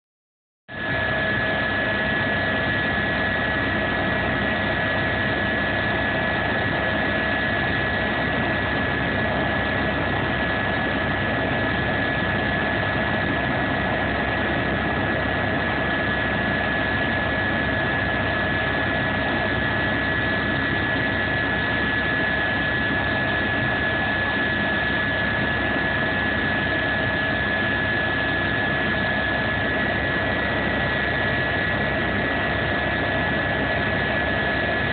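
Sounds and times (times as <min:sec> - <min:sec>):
aircraft cabin engine drone: 0:00.7 - 0:34.9
high engine whine: 0:00.7 - 0:34.9.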